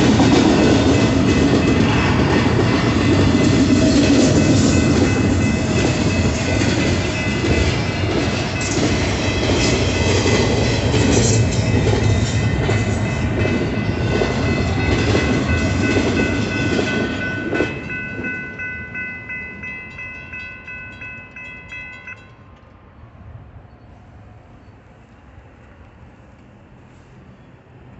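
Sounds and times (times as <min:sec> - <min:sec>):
freight train wheels clattering: 0:00.0 - 0:22.8
railroad crossing bell: 0:00.0 - 0:23.0.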